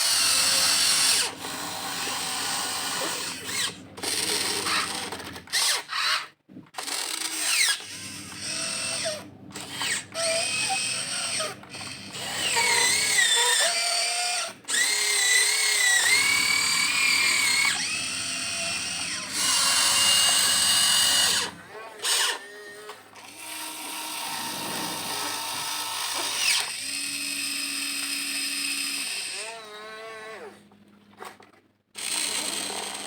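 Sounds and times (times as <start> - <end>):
electric gear motors whining: 0.0 - 30.7, 32.0 - 33.0.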